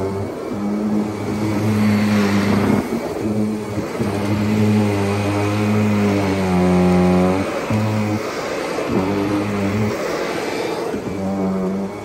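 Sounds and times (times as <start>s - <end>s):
rush of air and grit: 0.0s - 12.0s
vacuum cleaner humming: 0.0s - 12.0s.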